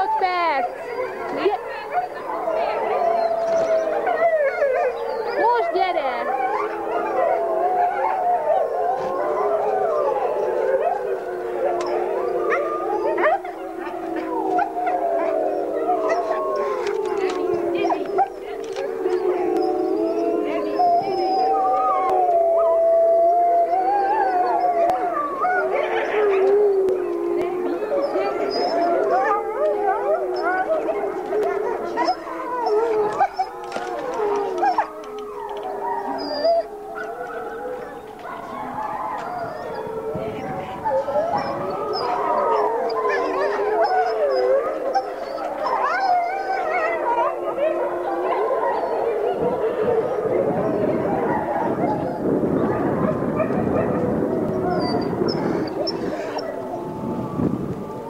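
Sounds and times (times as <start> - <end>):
wolves howling in chorus: 0.0 - 58.0.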